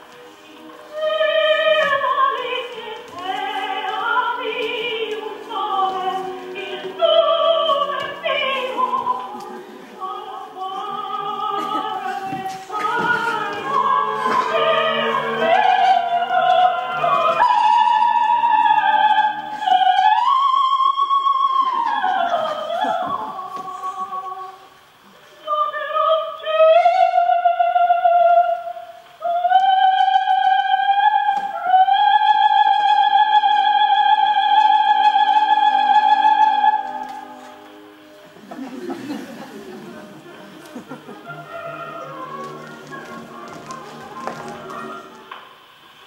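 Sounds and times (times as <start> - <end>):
operatic singing: 0.0 - 45.4
classical accompaniment: 0.0 - 46.0.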